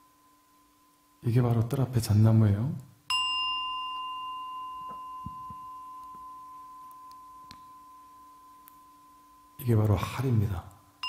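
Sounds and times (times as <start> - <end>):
meditation bowl ringing: 0.0 - 1.2, 3.1 - 11.0.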